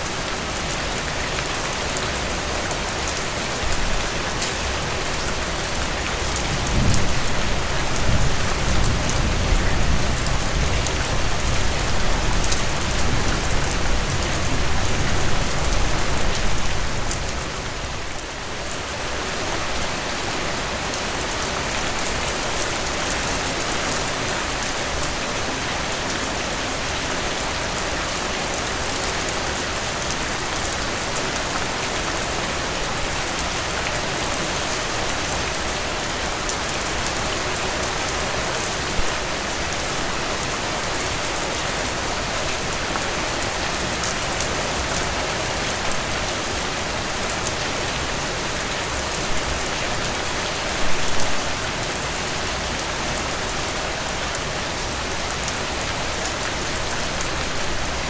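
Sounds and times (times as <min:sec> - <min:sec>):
rain spatters: 0:00.0 - 0:58.0.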